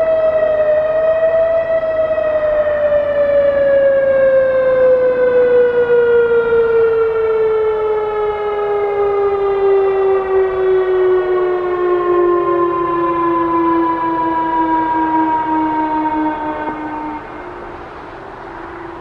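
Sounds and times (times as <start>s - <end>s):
fainter second siren tone: 0.0s - 19.0s
warning siren winding down: 0.0s - 19.0s.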